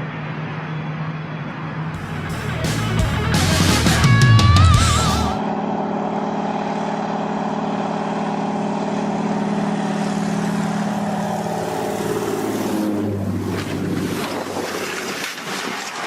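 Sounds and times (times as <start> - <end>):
engine humming: 1.8 - 16.0
lower hum: 2.0 - 15.4.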